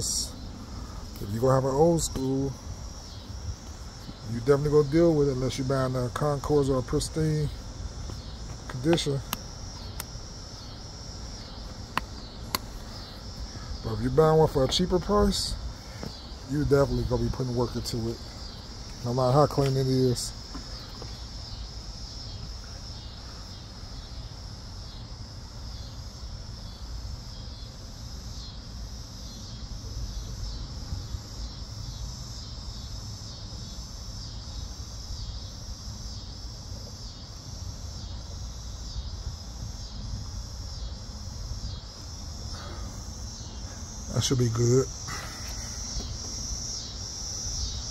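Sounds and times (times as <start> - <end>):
insects chirping: 0.0 - 47.9.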